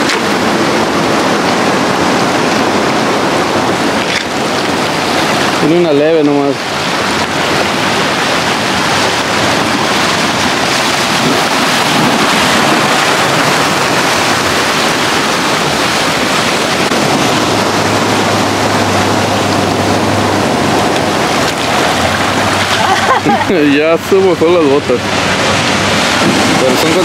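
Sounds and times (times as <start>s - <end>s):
ocean surf breaking on rocks: 0.0s - 27.0s.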